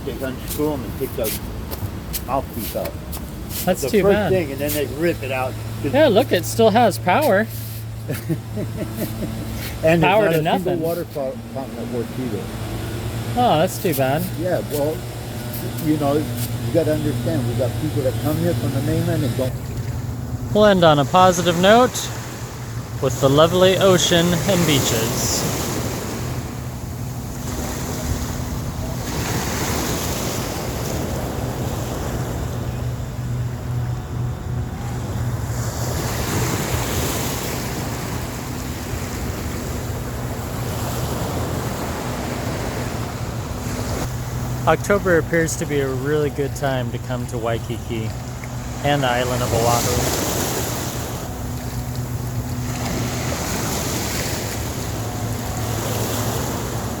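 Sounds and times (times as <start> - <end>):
low steady hum: 0.0 - 57.0
ocean surf washing onto beach: 0.0 - 57.0.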